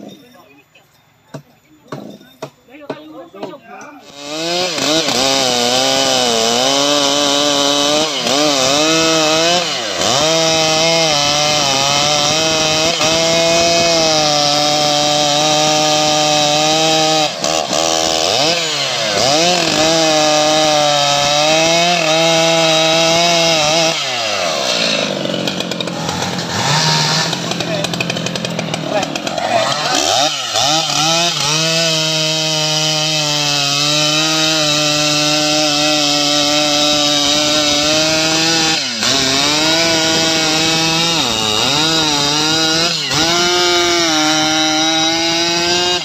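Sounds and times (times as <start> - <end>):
chainsaw cutting through log: 4.0 - 46.0.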